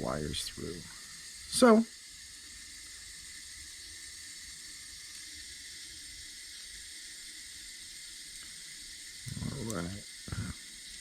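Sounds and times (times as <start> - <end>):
water running hiss: 0.0 - 11.0.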